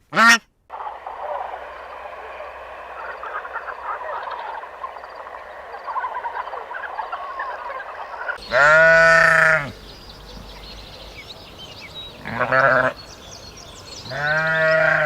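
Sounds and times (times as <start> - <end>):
loud honking call: 0.2 - 15.0
chorus of small animals calling: 0.7 - 15.0.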